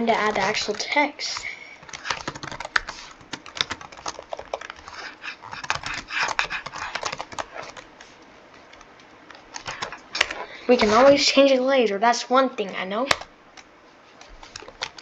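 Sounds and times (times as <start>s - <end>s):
computer keyboard typing: 0.0s - 7.9s, 8.7s - 11.1s, 12.6s - 15.0s.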